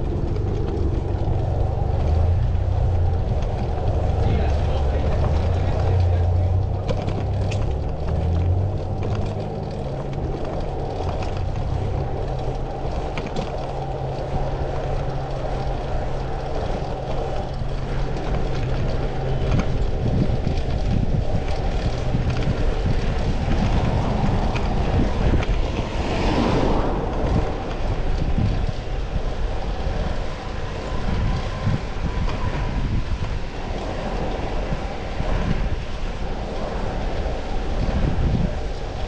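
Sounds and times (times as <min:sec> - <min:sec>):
city traffic: 0:00.0 - 0:39.0
vehicle passing rush: 0:00.0 - 0:39.0
wind noise on microphone: 0:00.0 - 0:39.0.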